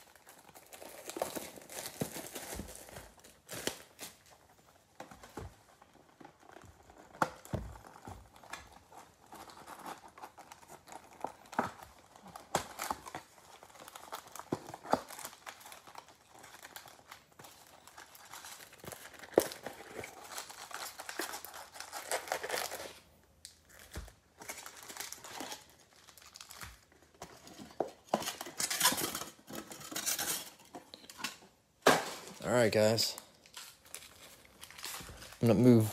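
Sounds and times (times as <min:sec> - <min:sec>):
foil packs crinkling: 0:00.0 - 0:31.4, 0:32.3 - 0:35.9.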